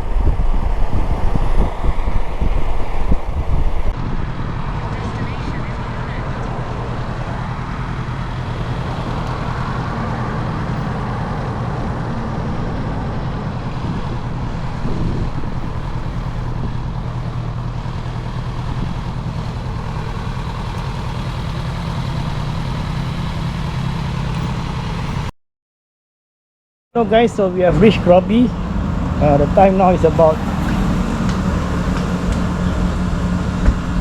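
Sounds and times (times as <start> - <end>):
motorcycle engine cruising: 0.0 - 25.3, 27.0 - 34.0
road and wind noise: 0.0 - 25.3, 27.0 - 34.0.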